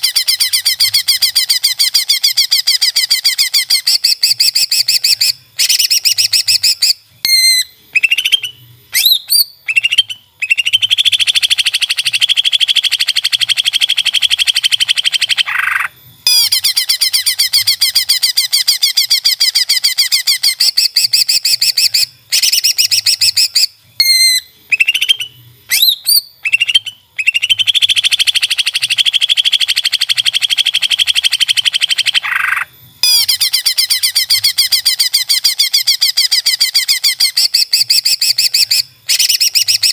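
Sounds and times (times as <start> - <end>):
leafbird singing trills and whistles: 0.0 - 39.9.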